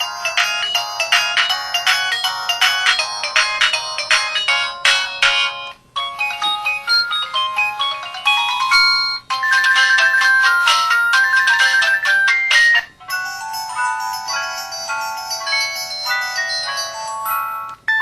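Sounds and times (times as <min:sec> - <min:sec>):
polyphonic ringtone melody: 0:00.0 - 0:18.0.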